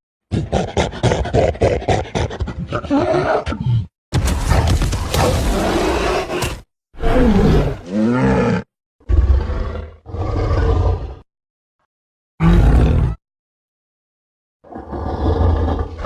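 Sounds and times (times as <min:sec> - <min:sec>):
giant ape roars and growls: 0:00.3 - 0:11.2, 0:12.4 - 0:13.2, 0:14.6 - 0:16.0.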